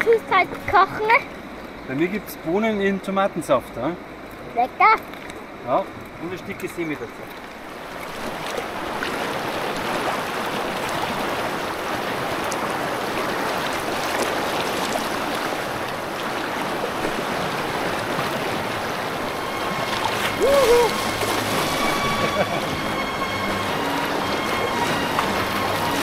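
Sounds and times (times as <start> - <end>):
river water rushing over riffles: 0.0 - 26.0.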